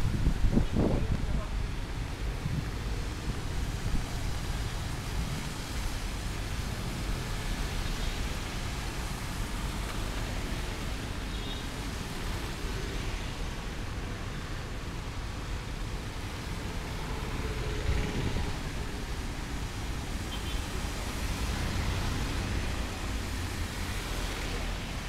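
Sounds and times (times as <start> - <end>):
low traffic rumble: 0.0 - 25.0
rain noise: 0.0 - 25.0.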